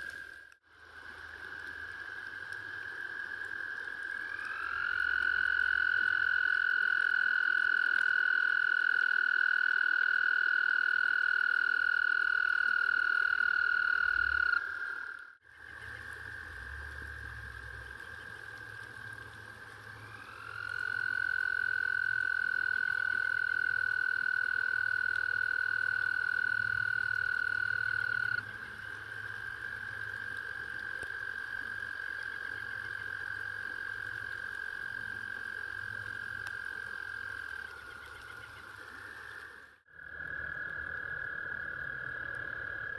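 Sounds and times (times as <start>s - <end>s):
frogs trilling: 1.2s - 42.9s.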